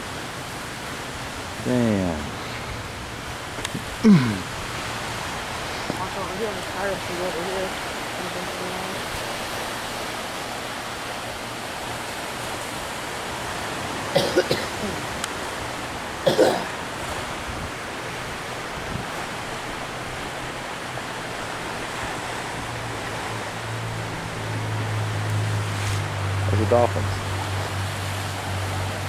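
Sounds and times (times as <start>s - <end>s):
ocean surf breaking on rocks: 0.0s - 29.0s.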